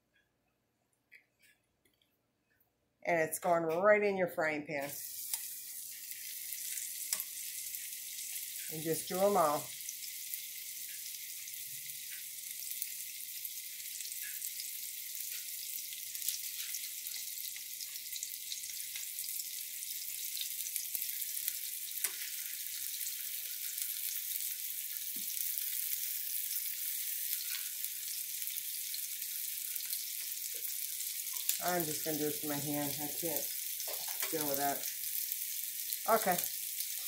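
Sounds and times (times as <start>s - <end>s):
chicken sizzling in frying pan: 4.8s - 37.0s.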